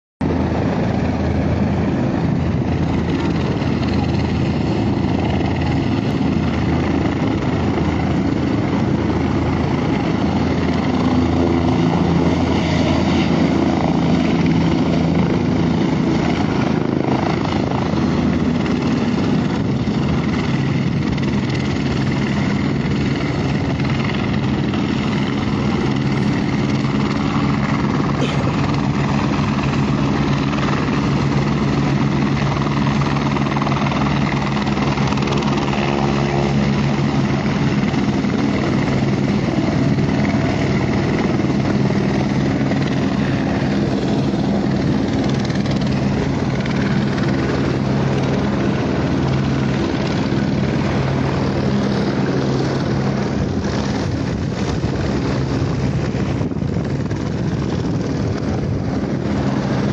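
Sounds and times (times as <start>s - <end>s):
helicopter flying: 0.2s - 59.9s.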